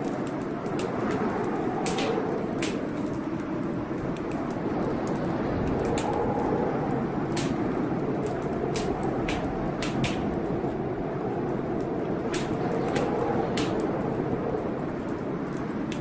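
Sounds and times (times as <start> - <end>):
rain rushing: 0.0 - 16.0
wood fire crackling: 0.0 - 16.0.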